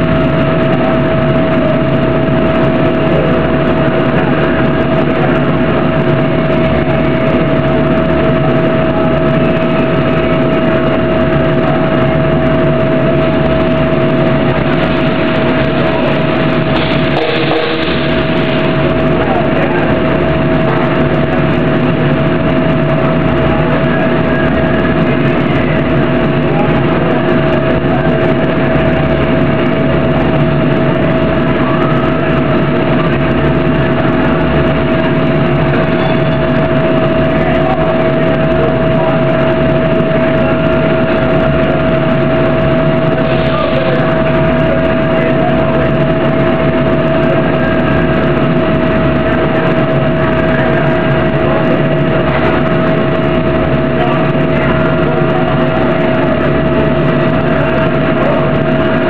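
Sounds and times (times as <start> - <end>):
industrial machinery humming: 0.0 - 59.0
pulsing low rumble: 0.0 - 59.0.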